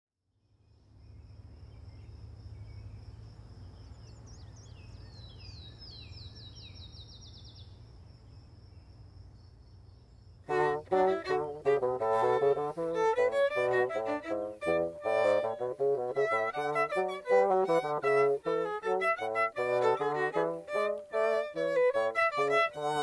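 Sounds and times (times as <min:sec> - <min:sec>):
songbird singing: 0:00.6 - 0:23.0.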